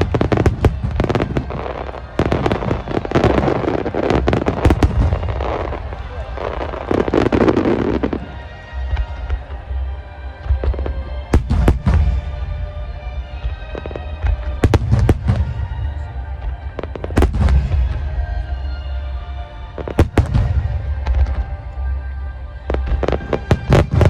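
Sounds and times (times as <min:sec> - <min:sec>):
fireworks bursting with bangs: 0:00.0 - 0:24.0
music: 0:00.0 - 0:24.0.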